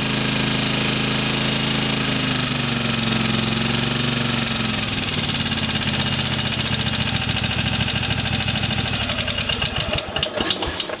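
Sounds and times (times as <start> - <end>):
engine running down to stop: 0.0 - 11.0.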